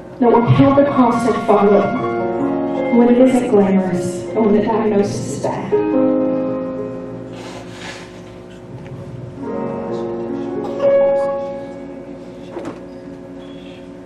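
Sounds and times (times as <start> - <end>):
soft keyboard chords: 0.2 - 7.7, 8.3 - 12.5.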